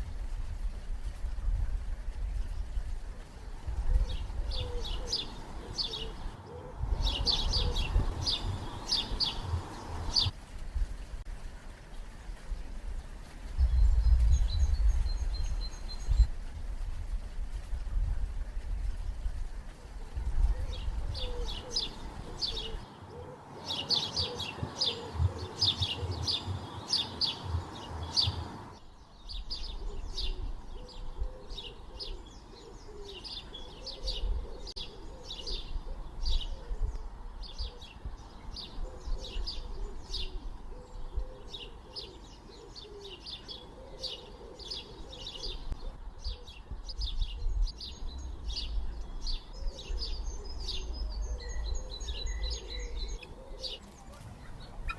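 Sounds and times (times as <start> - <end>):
birds chirping: 2.1 - 10.4, 18.8 - 54.9
low warbling bird calls: 2.2 - 10.4, 18.8 - 54.9.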